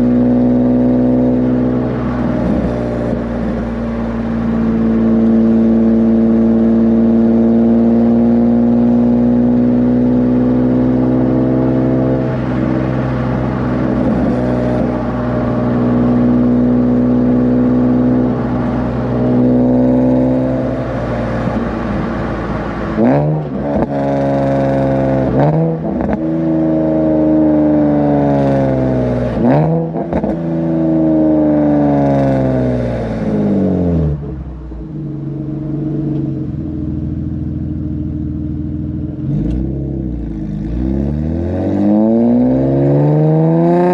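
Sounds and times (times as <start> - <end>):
car engine revving: 0.0 - 43.9.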